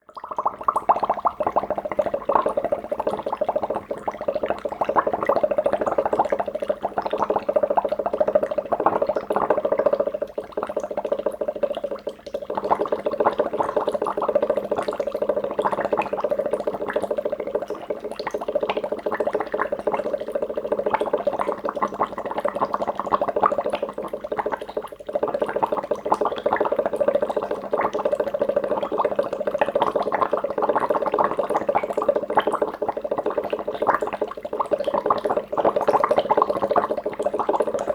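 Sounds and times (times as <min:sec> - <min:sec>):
liquid bubbling: 0:00.0 - 0:37.9.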